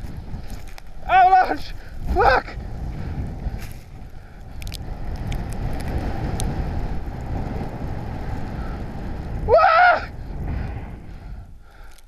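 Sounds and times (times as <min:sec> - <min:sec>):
sliding snow rushing: 0:00.0 - 0:11.5
wind on microphone: 0:00.0 - 0:12.0.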